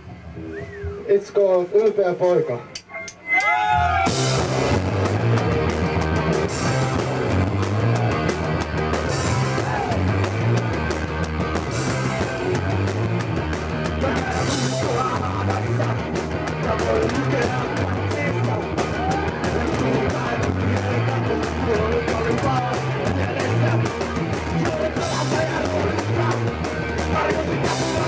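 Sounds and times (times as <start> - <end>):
punk band playing: 0.0 - 28.0.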